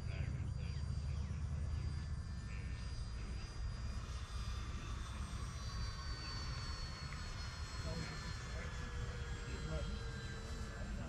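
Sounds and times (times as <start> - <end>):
model plane propeller whine: 0.0 - 11.0.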